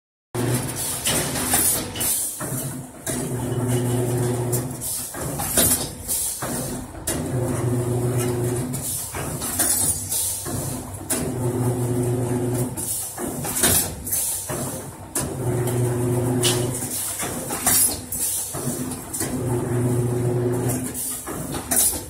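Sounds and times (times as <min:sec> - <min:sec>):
machine motor hum: 0:02.3 - 0:05.6, 0:06.4 - 0:17.7, 0:18.4 - 0:21.7.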